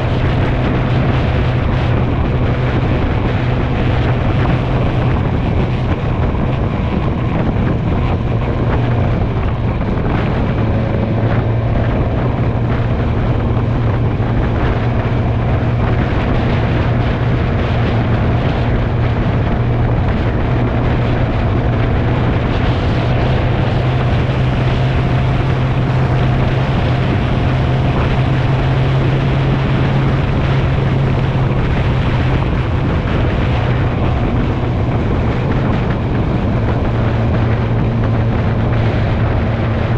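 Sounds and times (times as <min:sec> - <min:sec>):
motorcycle engine cruising: 0:00.0 - 0:39.9
road noise: 0:00.0 - 0:39.9
wind rushing: 0:00.0 - 0:39.9.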